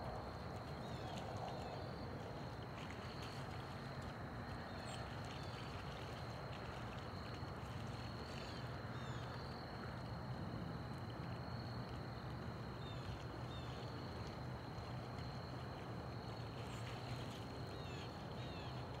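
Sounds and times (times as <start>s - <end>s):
low rumble and hiss: 0.0s - 19.0s.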